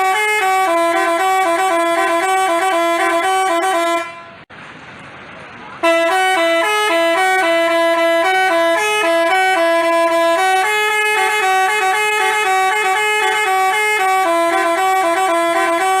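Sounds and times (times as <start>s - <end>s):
bus horn playing a tune: 0.0s - 4.5s, 5.8s - 16.0s.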